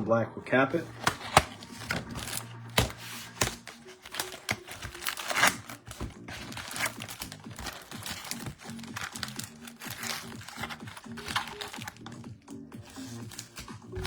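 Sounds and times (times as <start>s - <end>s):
background music: 0.0s - 14.0s
plastic wrapping crinkling and tearing: 0.8s - 14.0s.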